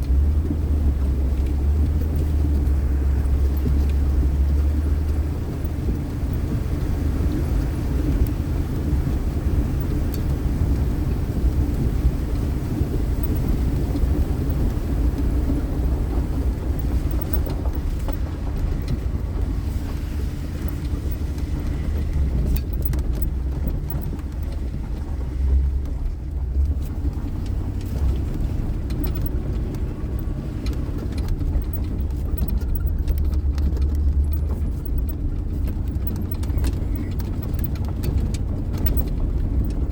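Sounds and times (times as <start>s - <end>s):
car driving rumble: 0.0s - 39.9s
faint ticks: 0.0s - 39.9s.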